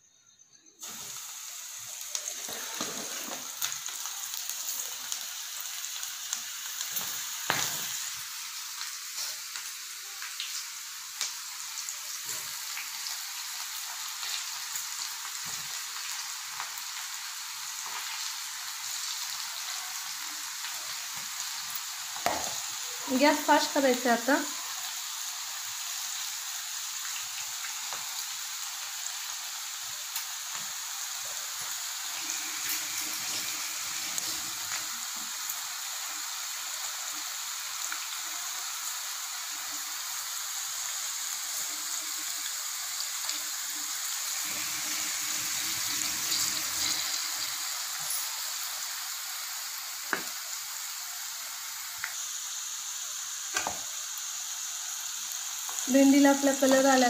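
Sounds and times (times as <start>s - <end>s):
okra deep-frying in hot oil: 0.0s - 57.0s.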